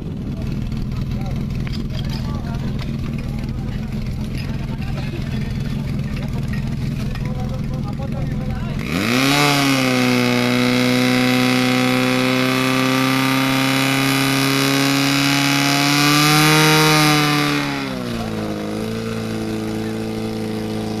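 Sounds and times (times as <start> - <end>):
fire pump engine running: 0.0 - 21.0.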